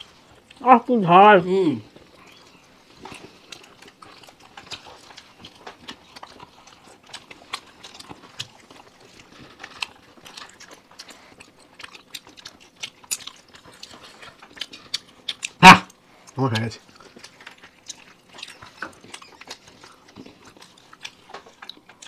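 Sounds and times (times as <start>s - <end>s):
people chewing and eating: 0.0s - 22.0s.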